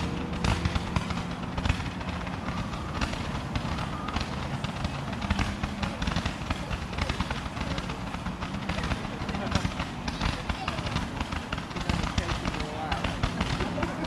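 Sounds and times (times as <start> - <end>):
fireworks pops and crackles: 0.0 - 14.0.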